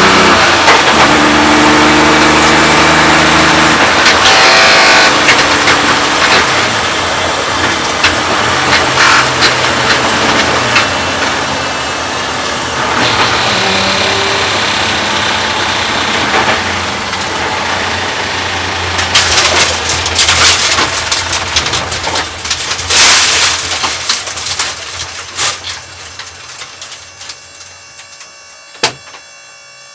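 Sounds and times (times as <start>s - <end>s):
road noise: 0.0s - 27.2s
rough car engine: 0.0s - 27.4s.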